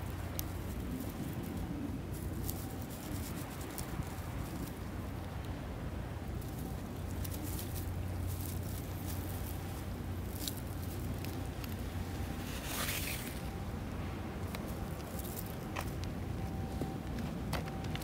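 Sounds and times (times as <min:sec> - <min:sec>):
dry grass rustling: 0:00.0 - 0:18.0.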